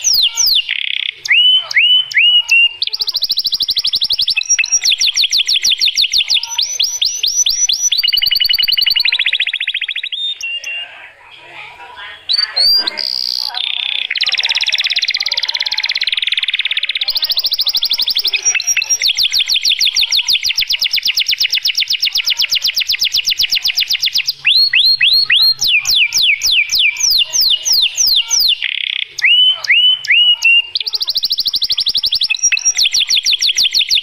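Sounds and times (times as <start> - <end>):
canary singing: 0.0 - 34.0.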